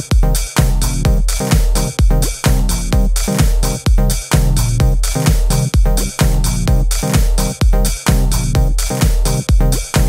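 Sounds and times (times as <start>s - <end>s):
bass-heavy kick drum: 0.0s - 10.0s
electronic music with fast beat: 0.0s - 10.0s.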